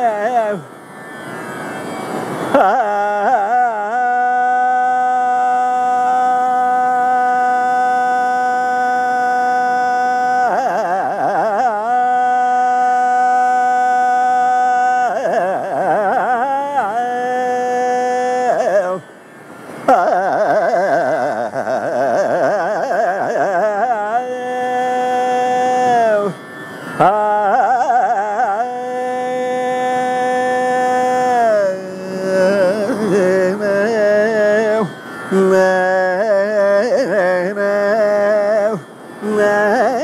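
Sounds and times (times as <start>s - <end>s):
man singing: 0.0s - 0.7s, 2.5s - 19.1s, 19.8s - 26.4s, 27.0s - 40.0s
tambura drone: 0.0s - 40.0s.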